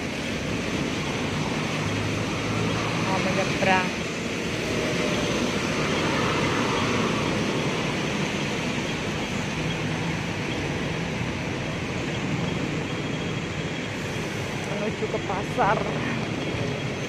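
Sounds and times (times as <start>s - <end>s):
city traffic: 0.0s - 17.0s
tyres hissing on wet road: 0.0s - 17.0s.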